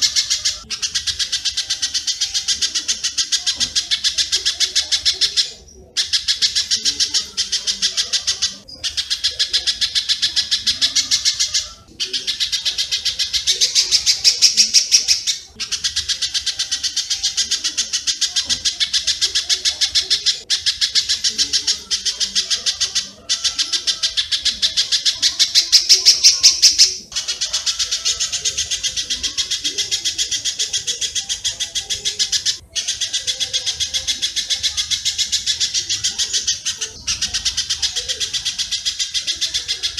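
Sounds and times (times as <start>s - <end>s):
birds rapid high chirping: 0.0s - 39.9s.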